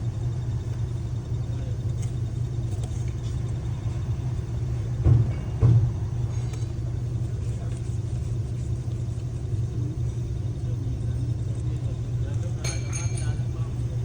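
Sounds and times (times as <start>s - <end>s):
car engine low rumble: 0.0s - 12.6s.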